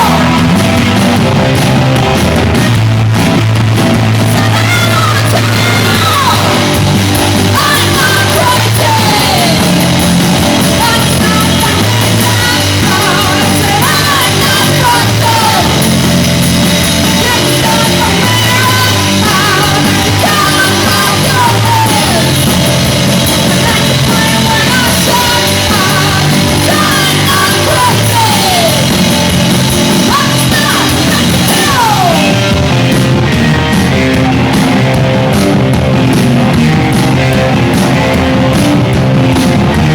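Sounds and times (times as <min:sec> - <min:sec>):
rock band playing loudly: 0:00.0 - 0:39.9
steady bass line: 0:00.0 - 0:39.9.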